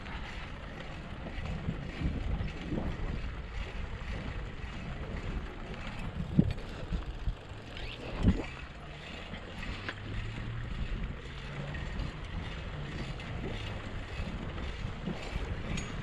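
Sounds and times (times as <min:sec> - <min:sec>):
bicycles rolling over dirt: 0:00.0 - 0:16.0
faint paraglider engine drone: 0:00.0 - 0:16.0
wind on microphone: 0:00.0 - 0:16.0
bike clicks and knocks: 0:00.4 - 0:16.0.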